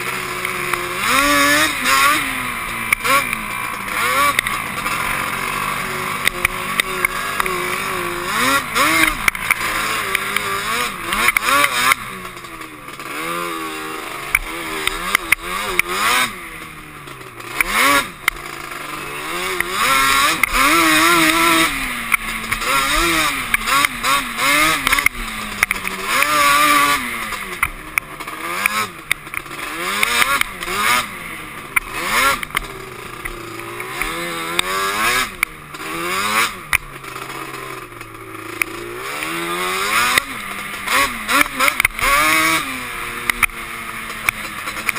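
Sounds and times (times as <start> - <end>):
quad engine revving: 0.0 - 44.9.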